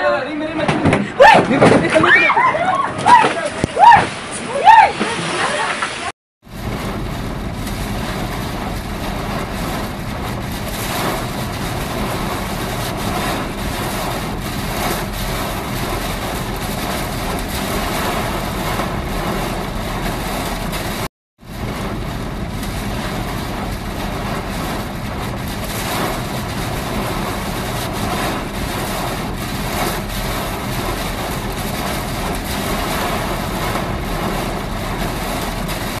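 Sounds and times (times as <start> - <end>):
heavy rain: 0.0 - 36.0
wind: 0.0 - 36.0
car engines rumbling: 5.8 - 36.0.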